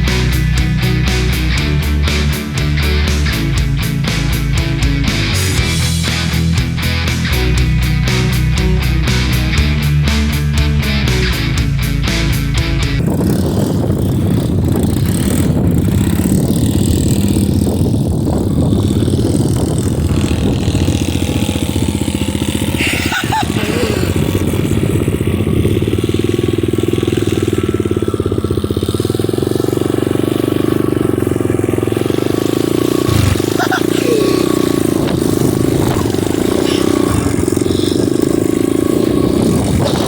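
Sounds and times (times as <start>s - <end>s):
small motorbike engine running: 0.0s - 40.0s.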